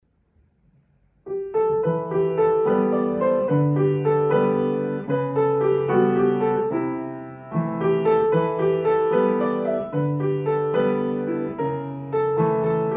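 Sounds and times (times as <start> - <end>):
gentle piano music: 1.2 - 12.9.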